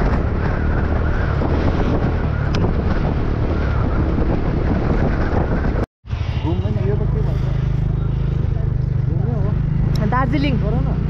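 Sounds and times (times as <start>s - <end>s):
tyre noise on road: 0.0s - 9.9s
wind buffeting microphone: 0.0s - 10.8s.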